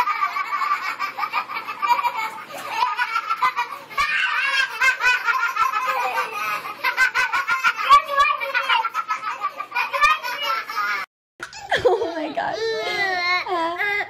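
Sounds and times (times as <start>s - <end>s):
boys laughing: 0.0s - 12.4s.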